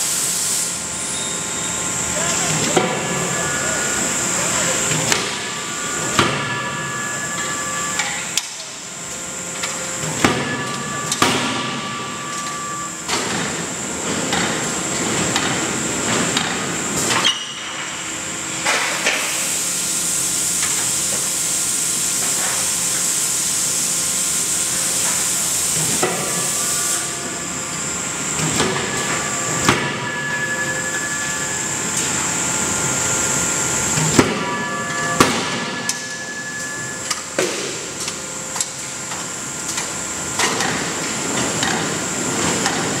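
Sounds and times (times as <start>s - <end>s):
machinery hum and whine: 0.0s - 43.0s.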